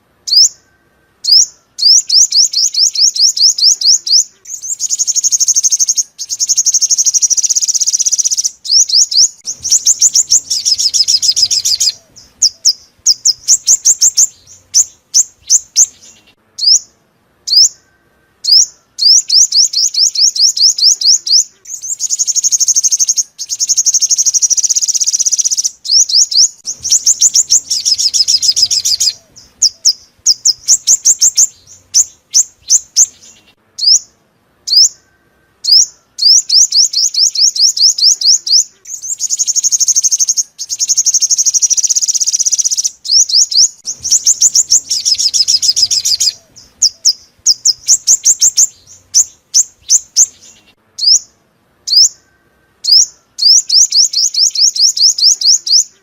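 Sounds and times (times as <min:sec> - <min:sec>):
sunbird singing buzzy trills: 0:00.0 - 0:56.0.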